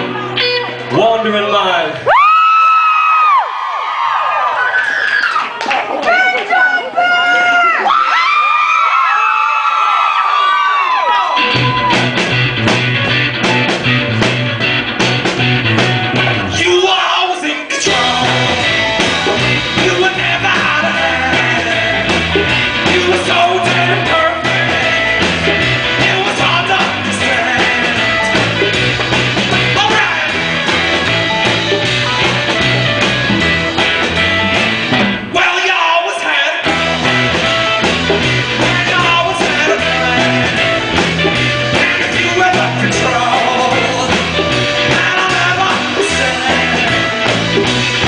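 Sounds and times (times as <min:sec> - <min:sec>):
live rock band playing: 0:00.0 - 0:02.6, 0:10.7 - 0:48.0.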